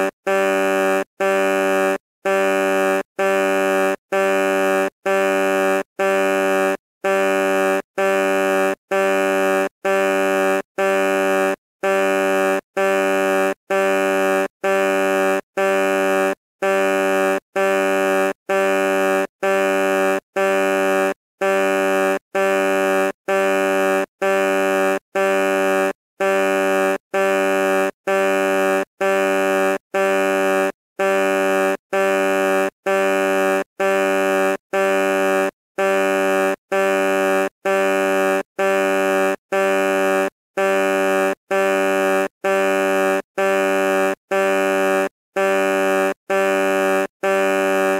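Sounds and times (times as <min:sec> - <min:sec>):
truck horn honking: 0:00.0 - 0:47.9.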